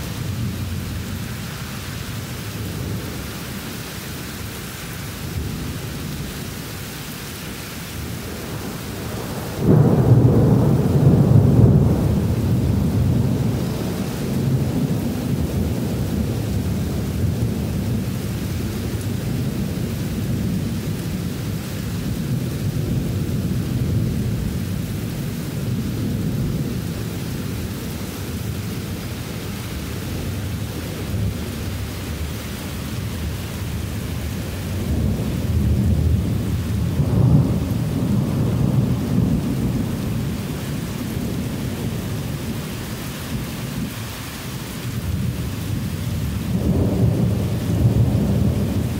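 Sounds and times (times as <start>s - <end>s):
heavy rain hissing: 0.0s - 48.9s
rolling thunder: 7.9s - 44.0s, 44.8s - 48.9s.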